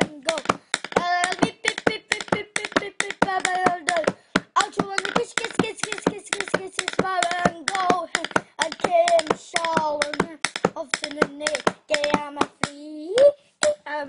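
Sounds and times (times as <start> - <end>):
pencil tapping: 0.0 - 13.8
child singing: 0.0 - 14.0.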